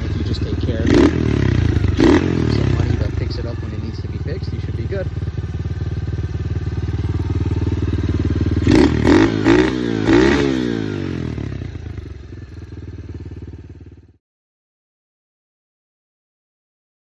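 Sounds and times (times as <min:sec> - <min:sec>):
dirt bike engine idling and revving: 0:00.0 - 0:14.2.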